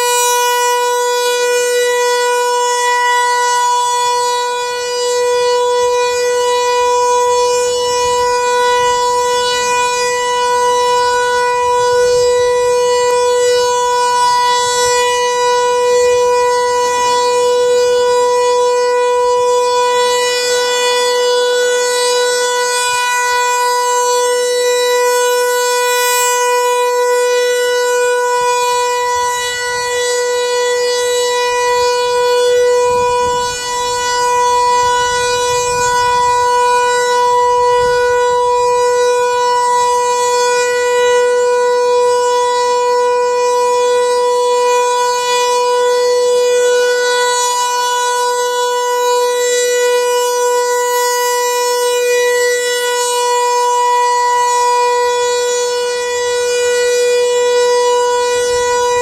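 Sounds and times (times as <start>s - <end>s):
rotating siren steady tone: 0.0s - 59.0s.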